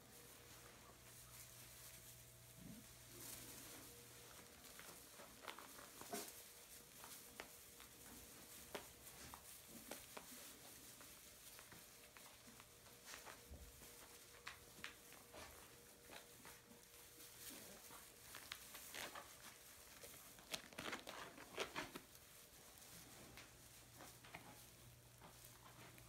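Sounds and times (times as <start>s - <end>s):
puppies rustling straw: 0.0s - 26.0s
light clicks and scrapes: 0.2s - 26.0s.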